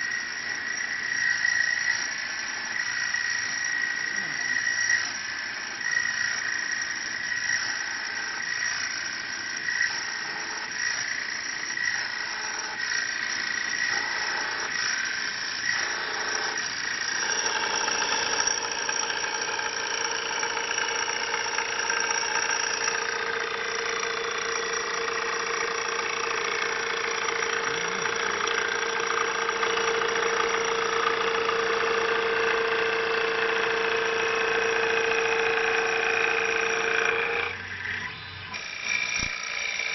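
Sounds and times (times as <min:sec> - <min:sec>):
high machine whine: 0:00.0 - 0:39.9
wood lathe running: 0:00.0 - 0:39.9.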